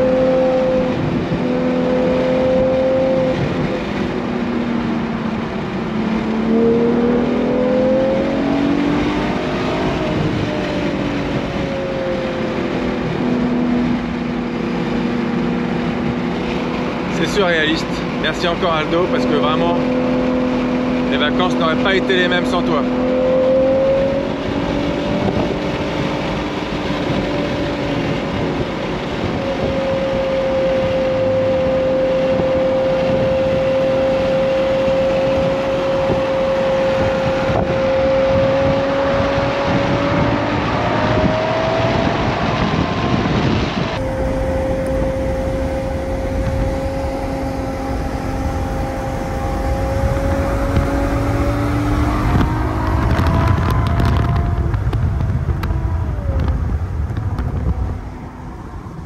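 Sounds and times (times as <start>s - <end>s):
car engine cruising: 0.0s - 59.0s
road noise: 0.0s - 59.0s
wind noise: 0.0s - 59.0s.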